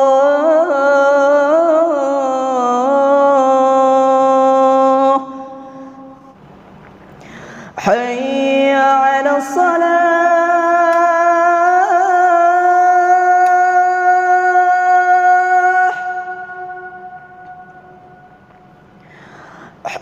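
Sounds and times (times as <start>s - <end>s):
man singing call to prayer: 0.0s - 6.4s, 7.8s - 18.4s.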